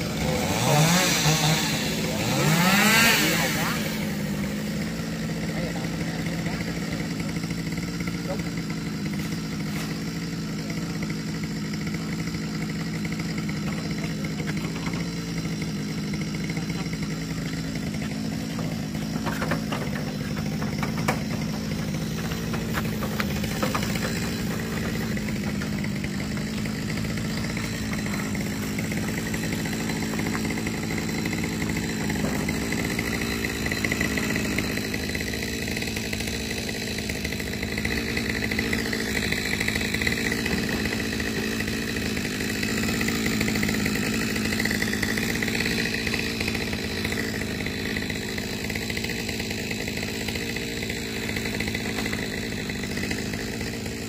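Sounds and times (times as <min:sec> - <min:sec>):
chainsaw engine idling: 0:00.0 - 0:54.0.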